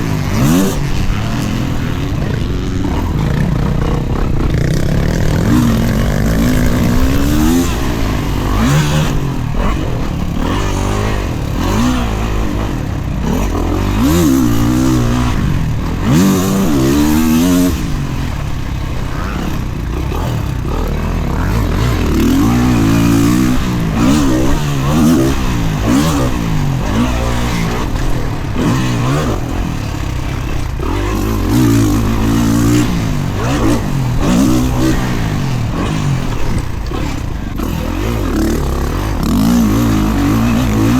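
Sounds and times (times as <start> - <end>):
constant rushing noise: 0.0 - 40.9
dirt bike engine revving: 0.0 - 40.9.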